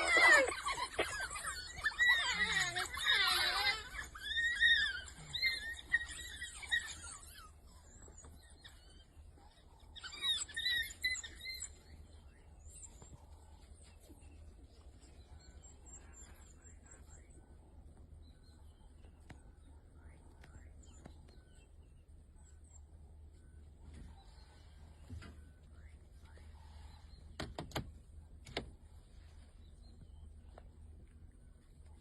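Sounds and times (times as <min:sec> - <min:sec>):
dogs twittering and squealing: 0:00.0 - 0:27.4.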